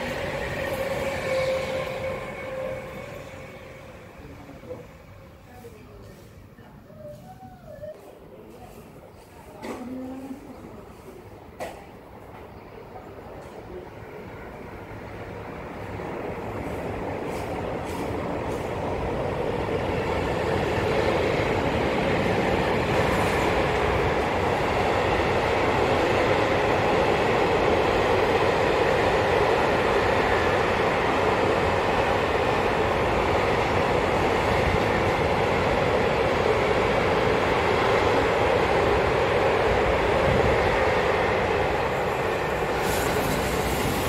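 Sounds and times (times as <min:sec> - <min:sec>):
freight train wheels rolling on rails: 0:00.0 - 0:44.0.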